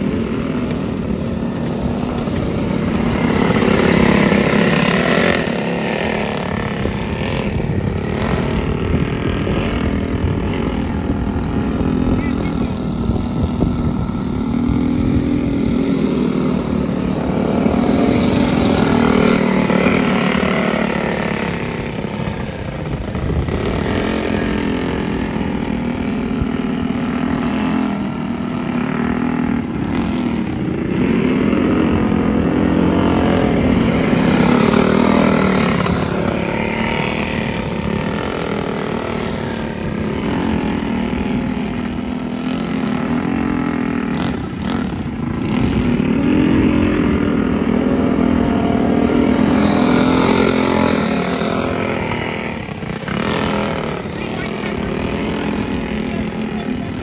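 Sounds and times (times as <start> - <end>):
small racing engines: 0.0 - 57.0.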